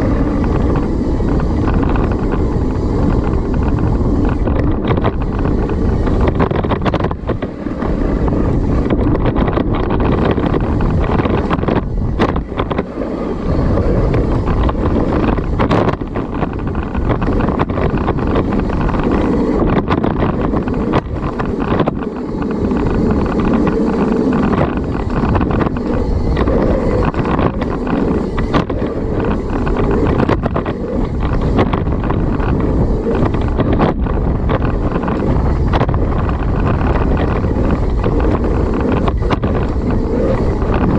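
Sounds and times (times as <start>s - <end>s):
bike knocks and rattles: 0.0s - 40.9s
bike tyre and drivetrain noise: 0.0s - 40.9s
wind over microphone: 0.0s - 40.9s.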